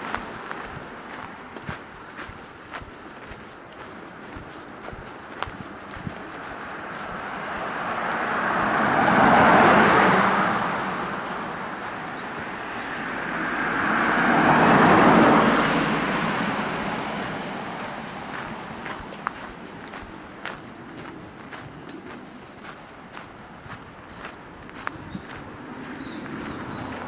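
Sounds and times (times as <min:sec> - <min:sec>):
cars passing by: 0:00.0 - 0:27.0.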